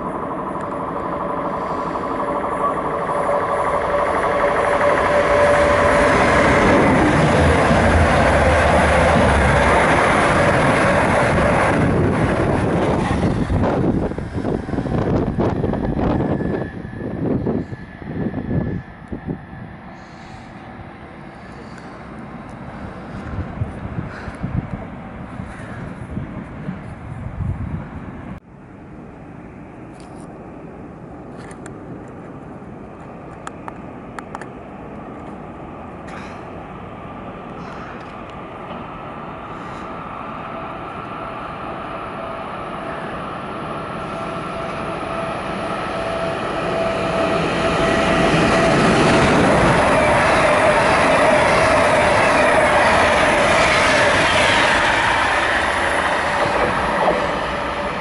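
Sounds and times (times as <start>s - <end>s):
train wheels rushing on rails: 0.0s - 28.4s, 31.0s - 58.0s
electric locomotive rumble: 0.0s - 58.0s.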